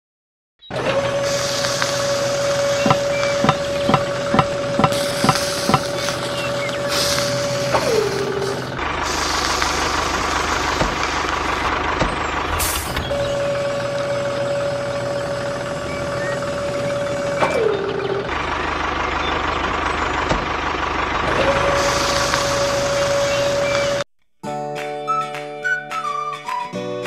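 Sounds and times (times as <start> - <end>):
dump truck engine running: 0.7 - 24.1.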